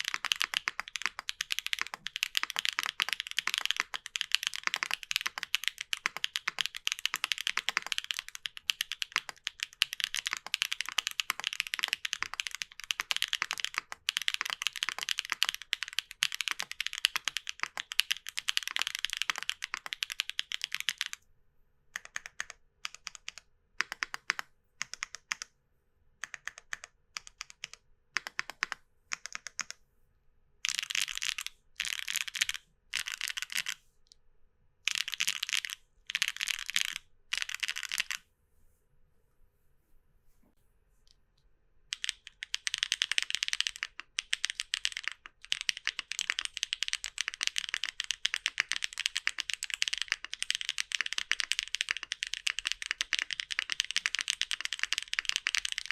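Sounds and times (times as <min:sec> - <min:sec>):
mechanical keyboard typing: 0:00.0 - 0:21.2, 0:22.0 - 0:25.5, 0:26.2 - 0:29.8, 0:30.6 - 0:33.8, 0:34.9 - 0:38.2, 0:41.9 - 0:55.9.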